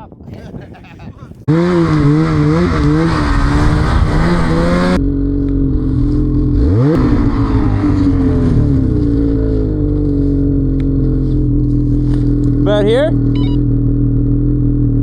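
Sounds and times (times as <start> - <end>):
snowmobile engine revving: 1.4 - 15.0.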